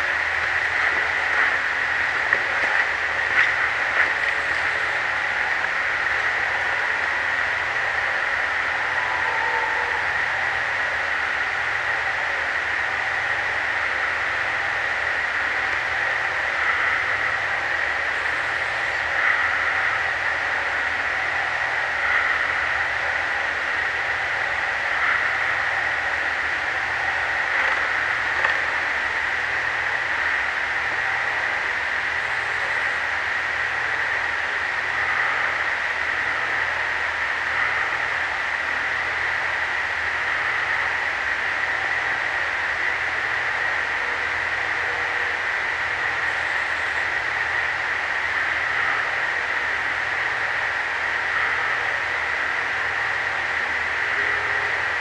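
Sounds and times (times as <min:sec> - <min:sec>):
night swamp droning chorus: 0:00.0 - 0:55.0.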